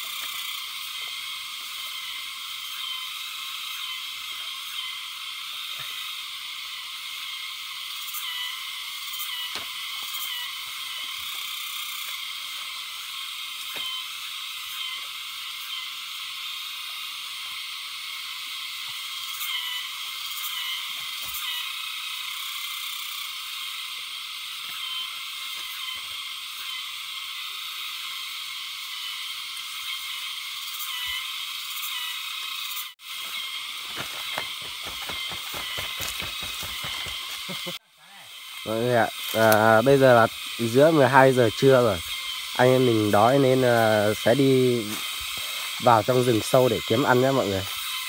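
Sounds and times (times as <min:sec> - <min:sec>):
chorus of frogs or insects: 0:00.0 - 0:48.0.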